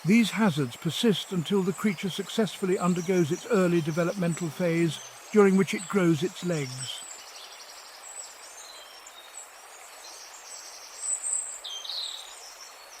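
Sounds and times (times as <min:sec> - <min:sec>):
background hiss: 0:00.0 - 0:13.0
small birds chirping and trilling: 0:00.0 - 0:13.0.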